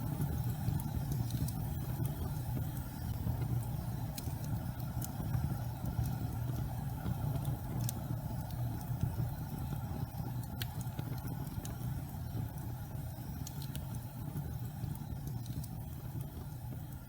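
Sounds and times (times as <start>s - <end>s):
faint crackles: 0.0s - 17.0s
gas fire flames rumbling: 0.0s - 17.0s.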